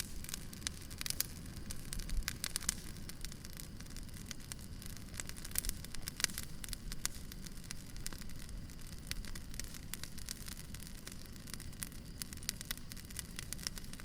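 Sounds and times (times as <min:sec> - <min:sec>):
firewood crackling and popping: 0:00.0 - 0:14.0
low rumble of fire: 0:00.0 - 0:14.0.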